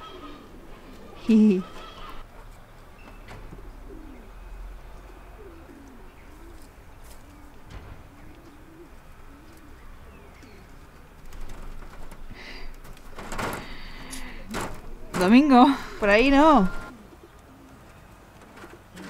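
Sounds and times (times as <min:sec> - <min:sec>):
low cooing calls: 0:00.0 - 0:02.2, 0:03.1 - 0:11.1, 0:13.5 - 0:19.0.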